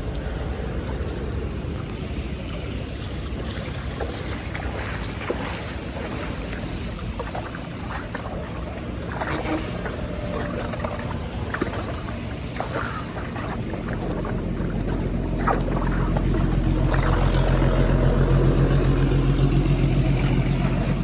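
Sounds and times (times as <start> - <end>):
floodwater rushing through drain: 0.0 - 21.0
small splashes: 0.0 - 21.0.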